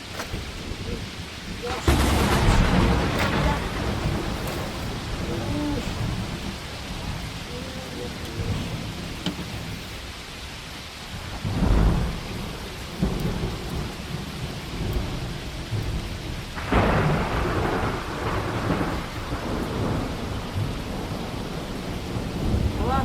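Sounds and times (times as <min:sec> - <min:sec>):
heavy rain falling: 0:00.0 - 0:23.0
thunder rumbling: 0:00.0 - 0:23.0.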